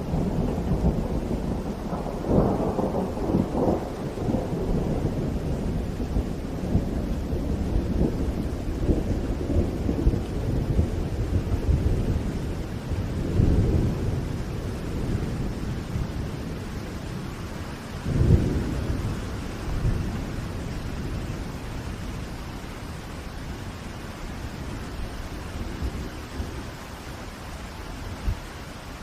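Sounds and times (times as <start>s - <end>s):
low rolling thunder: 0.0s - 27.1s
steady rain: 0.0s - 29.0s.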